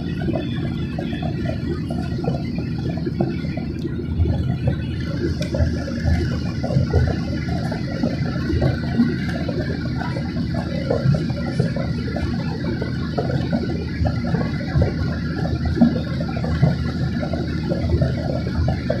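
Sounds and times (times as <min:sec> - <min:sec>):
airliner cabin rumble: 0:00.0 - 0:15.9.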